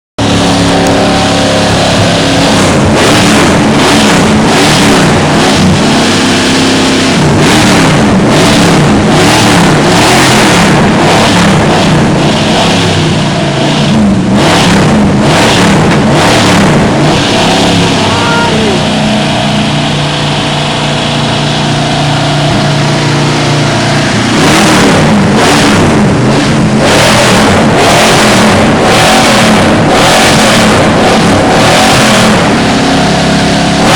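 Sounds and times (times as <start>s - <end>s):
pickup engine revving: 0.2s - 33.9s.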